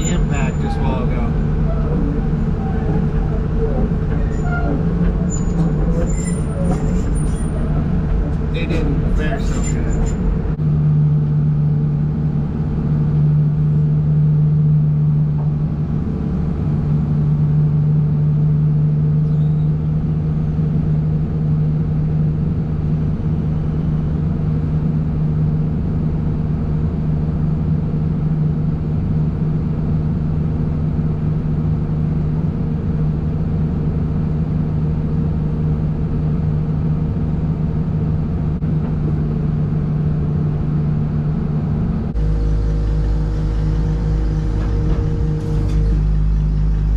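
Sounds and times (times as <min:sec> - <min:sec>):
heavy vehicle engine droning: 0:00.0 - 0:46.9.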